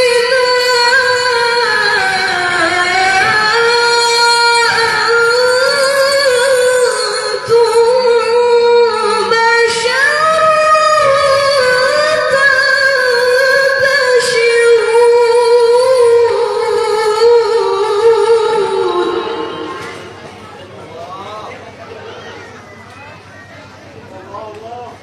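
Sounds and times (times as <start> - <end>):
woman reciting melodically: 0.0 - 20.7.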